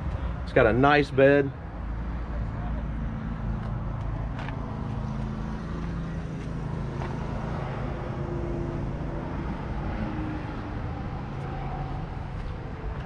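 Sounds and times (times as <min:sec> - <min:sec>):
motor vehicle hum: 0:01.5 - 0:13.0.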